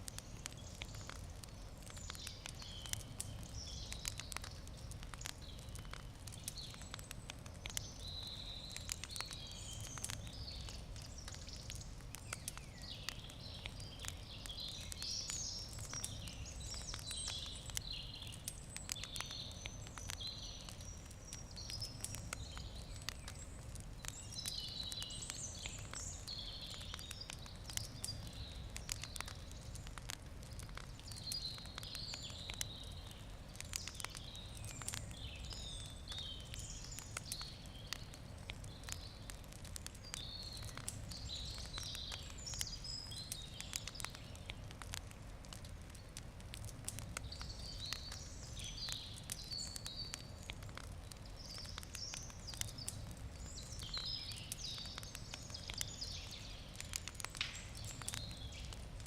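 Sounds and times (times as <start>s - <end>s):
campfire crackling and popping: 0.0s - 59.0s
songbirds singing: 0.0s - 59.0s.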